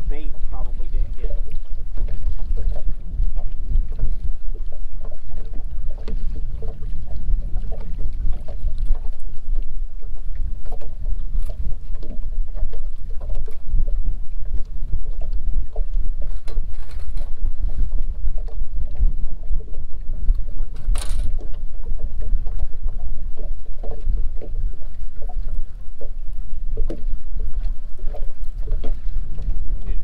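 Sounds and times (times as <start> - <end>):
water slapping against hull: 0.0 - 30.0
wind noise on microphone: 0.0 - 30.0.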